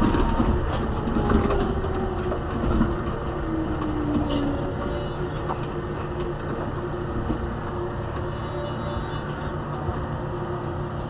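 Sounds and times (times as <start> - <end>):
humming tone from train drive: 0.0 - 11.0
train running with low rumble: 0.0 - 11.0.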